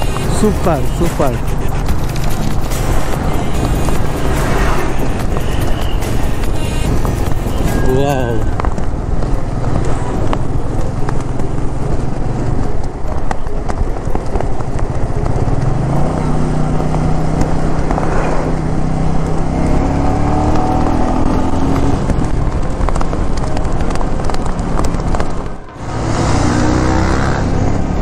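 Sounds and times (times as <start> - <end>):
heavy wind rush: 0.0 - 28.0
motorcycle engine running: 0.0 - 28.0.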